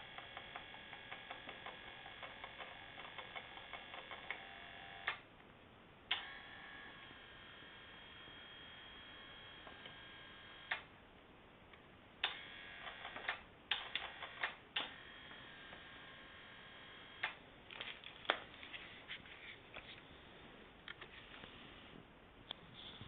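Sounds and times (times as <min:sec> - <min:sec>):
faint motor hum: 0:00.0 - 0:05.4, 0:06.0 - 0:11.3, 0:12.2 - 0:23.0.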